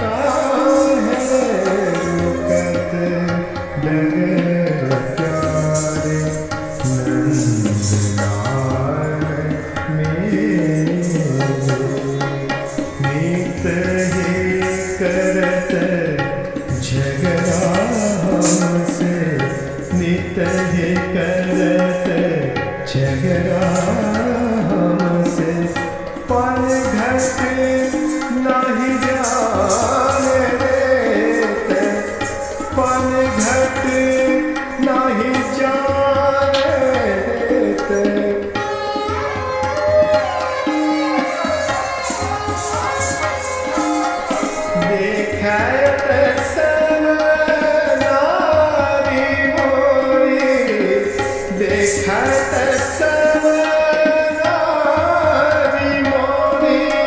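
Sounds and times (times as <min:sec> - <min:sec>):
tabla strokes: 0:00.0 - 0:57.0.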